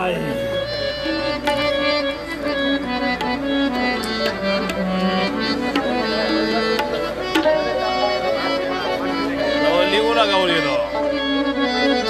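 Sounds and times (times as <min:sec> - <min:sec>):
harmonium chords: 0:00.0 - 0:12.0
tabla drums: 0:00.0 - 0:12.0.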